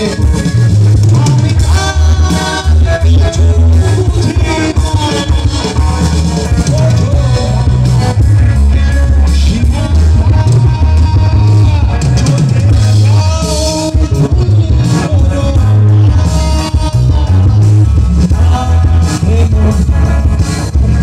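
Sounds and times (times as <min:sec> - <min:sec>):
bass guitar: 0:00.0 - 0:21.0
drum kit beat: 0:00.0 - 0:21.0
electric guitars: 0:00.0 - 0:21.0
man singing: 0:00.0 - 0:21.0.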